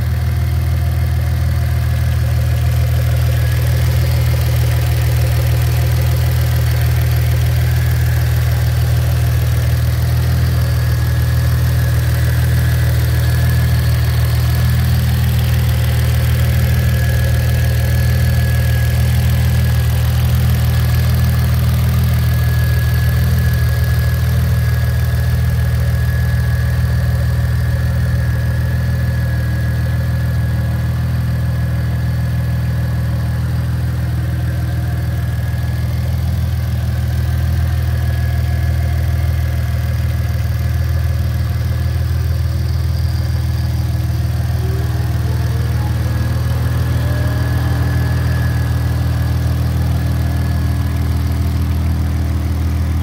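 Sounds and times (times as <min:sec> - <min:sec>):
car engine idling: 0:00.0 - 0:53.0
turbo whine: 0:00.0 - 0:53.0.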